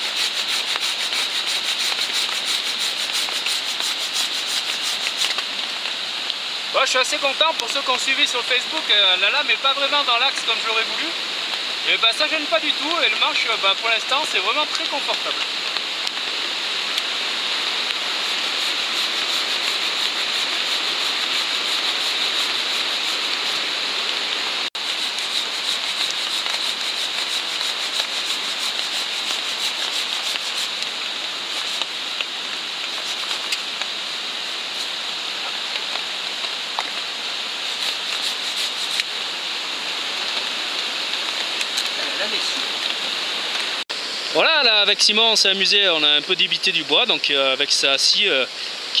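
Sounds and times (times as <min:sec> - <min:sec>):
heavy rain: 0:00.0 - 0:49.0.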